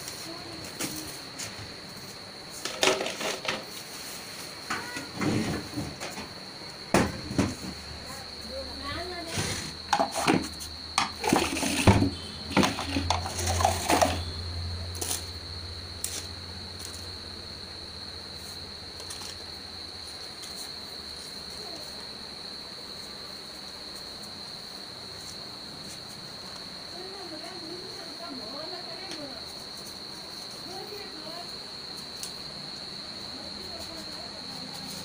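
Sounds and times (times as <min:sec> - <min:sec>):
cricket trilling: 0:00.0 - 0:35.0.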